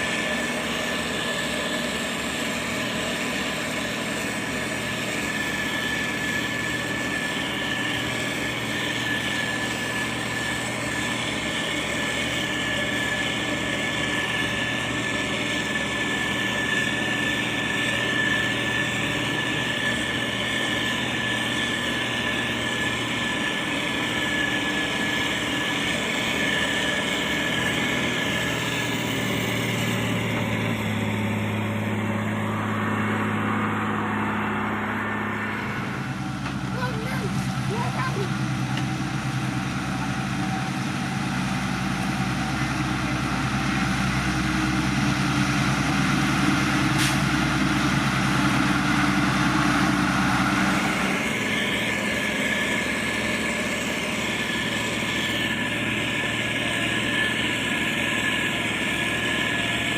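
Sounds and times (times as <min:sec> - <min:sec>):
diesel engine running: 0:00.0 - 0:59.9
high-pitched whine: 0:00.0 - 0:59.9.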